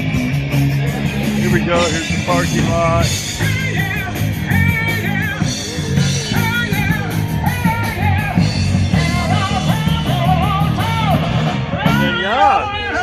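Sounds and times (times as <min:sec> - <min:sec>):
bass guitar: 0:00.0 - 0:13.0
drums: 0:00.0 - 0:13.0
electric guitar: 0:00.0 - 0:13.0
person singing: 0:02.4 - 0:13.0.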